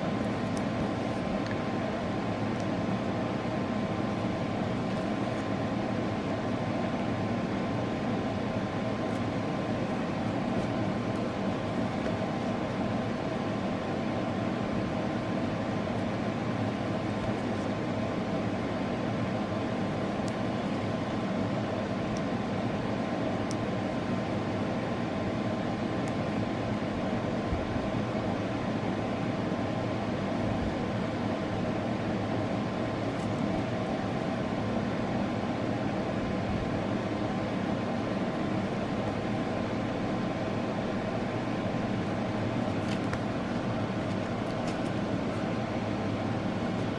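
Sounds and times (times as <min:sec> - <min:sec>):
mechanical hum and hiss: 0:00.0 - 0:46.9.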